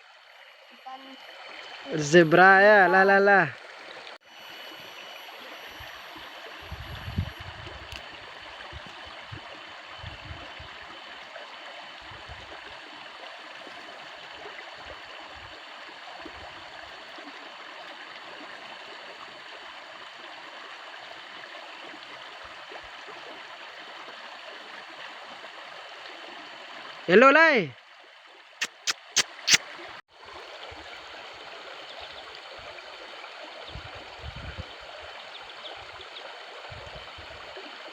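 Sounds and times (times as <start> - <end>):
flowing water rushing: 0.0 - 37.9.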